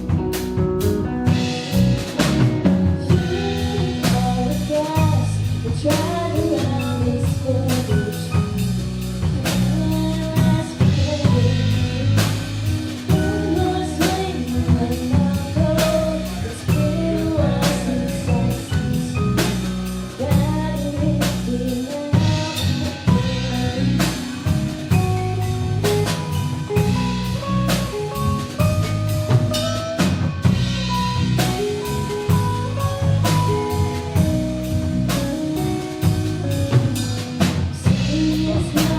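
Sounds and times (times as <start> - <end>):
drum rimshots: 0.0 - 38.9
live rock band playing: 0.0 - 38.9.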